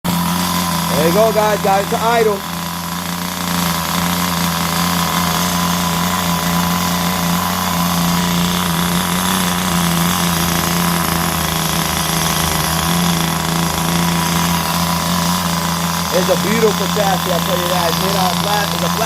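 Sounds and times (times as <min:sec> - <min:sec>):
small two-stroke engine idling: 0:00.0 - 0:19.0.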